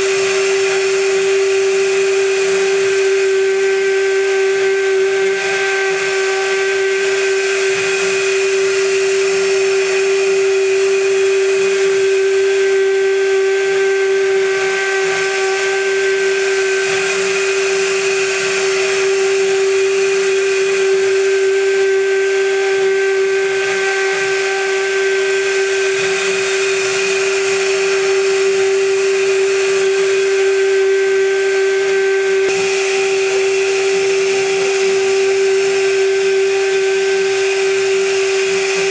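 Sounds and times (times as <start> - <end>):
cutter hissing on metal: 0.0 - 38.9
milling spindle whine: 0.0 - 38.9.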